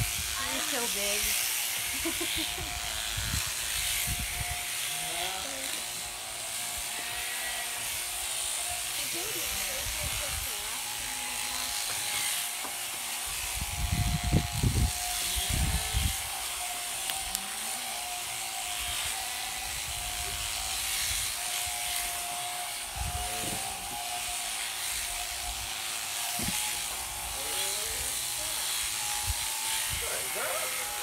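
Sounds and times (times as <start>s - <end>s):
shearing machine whine: 0.0s - 31.0s.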